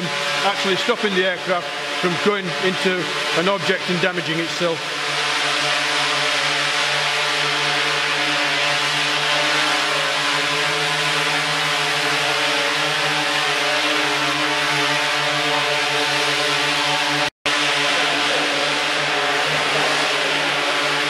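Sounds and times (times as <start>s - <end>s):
quadcopter buzzing: 0.0s - 21.0s.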